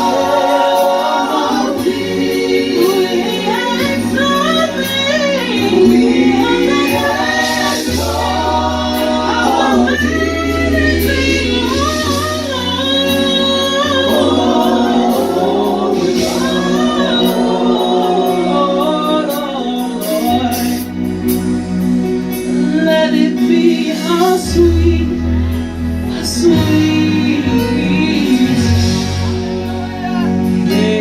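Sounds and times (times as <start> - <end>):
group singing gospel song: 0.0 - 31.0
instrumental accompaniment: 0.0 - 31.0
steady bass line: 0.0 - 31.0.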